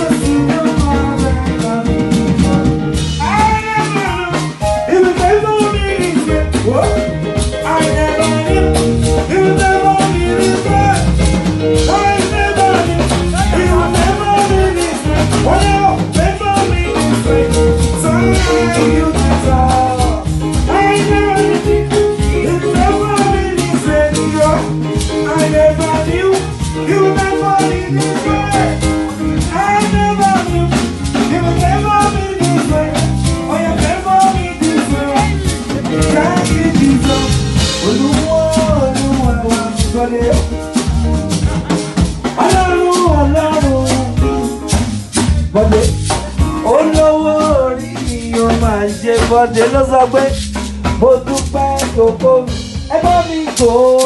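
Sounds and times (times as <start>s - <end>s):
drum kit: 0.0s - 54.0s
melodic lead line: 0.0s - 54.0s
shakers: 0.0s - 54.0s.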